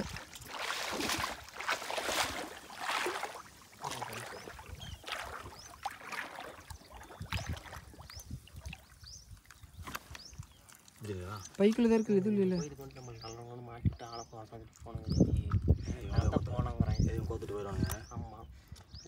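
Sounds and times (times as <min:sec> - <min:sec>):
water dripping: 0:00.0 - 0:16.3
water sloshing and splashing: 0:00.0 - 0:18.0.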